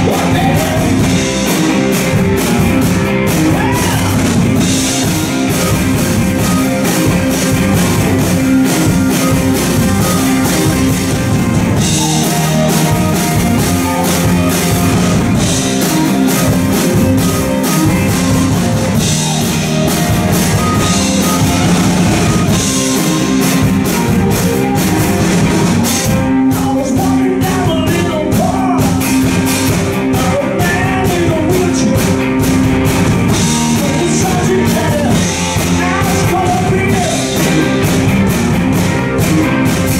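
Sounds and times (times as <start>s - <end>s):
lead electric guitar bending lines: 0.0s - 39.9s
live rock band playing: 0.0s - 39.9s.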